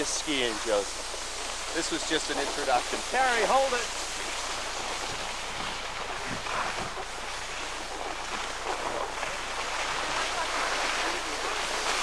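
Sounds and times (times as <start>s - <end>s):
skis sliding over snow: 0.0s - 12.0s
wind on microphone: 0.0s - 12.0s.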